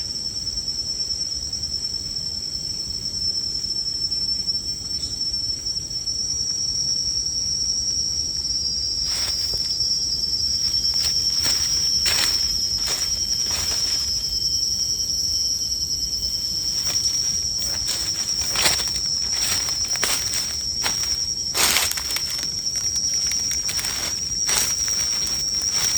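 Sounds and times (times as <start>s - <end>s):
insects droning: 0.0s - 25.9s.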